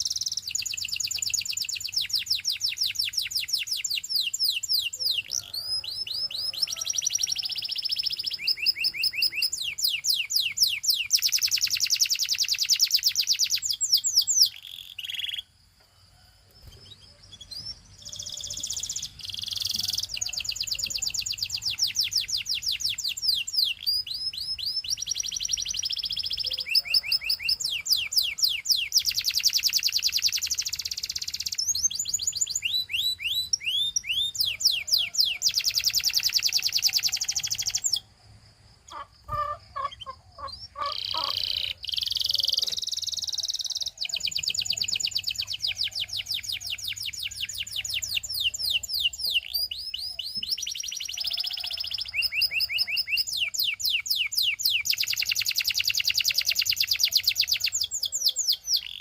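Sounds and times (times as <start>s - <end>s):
canary singing trills: 0.0s - 15.6s, 16.6s - 38.2s, 38.9s - 59.0s.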